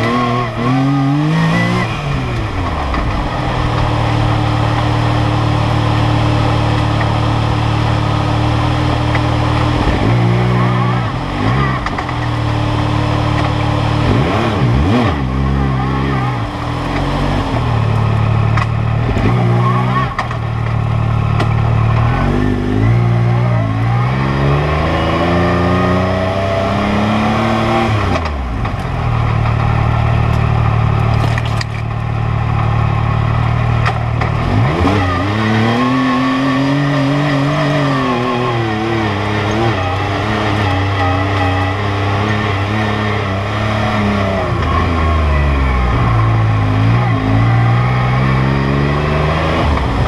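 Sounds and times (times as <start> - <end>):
engine running and revving: 0.0 - 50.0.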